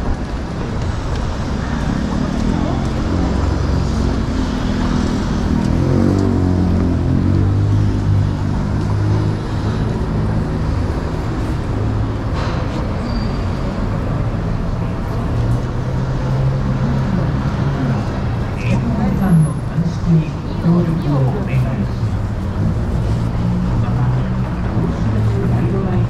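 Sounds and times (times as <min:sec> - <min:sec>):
tyre and traffic noise: 0:00.0 - 0:26.0
vehicle engines running: 0:00.0 - 0:26.0.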